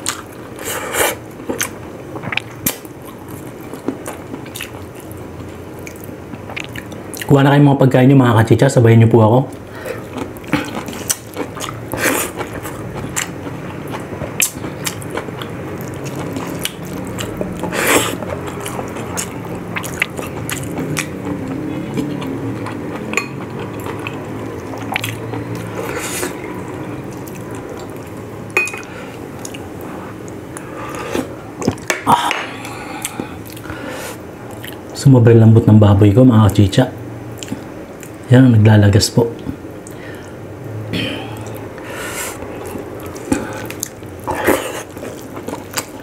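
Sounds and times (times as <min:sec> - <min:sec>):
person chewing food: 0:00.0 - 0:07.3, 0:09.5 - 0:35.0, 0:37.3 - 0:38.2, 0:41.0 - 0:46.0.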